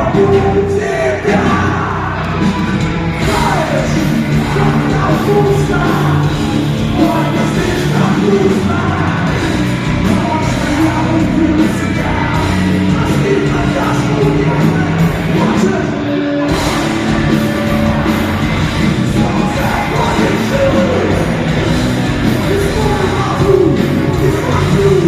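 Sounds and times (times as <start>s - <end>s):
rock band playing live: 0.0s - 25.0s
singer singing and shouting: 0.0s - 25.0s.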